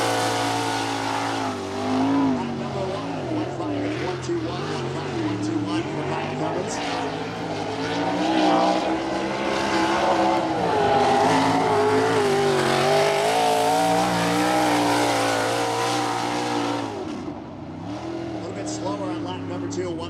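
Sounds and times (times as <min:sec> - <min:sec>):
race car engine at speed: 0:00.0 - 0:20.0.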